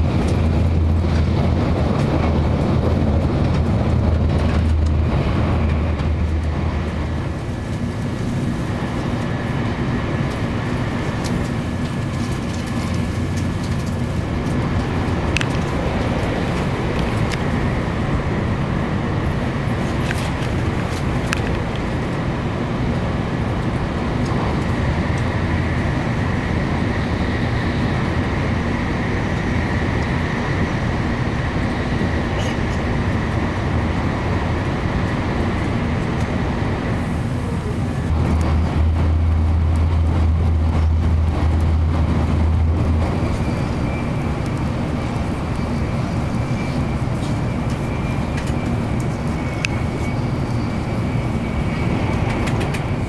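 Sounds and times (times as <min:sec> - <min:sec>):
heavy low drone: 0:00.0 - 0:53.0
train cabin rush and rumble: 0:00.0 - 0:53.0.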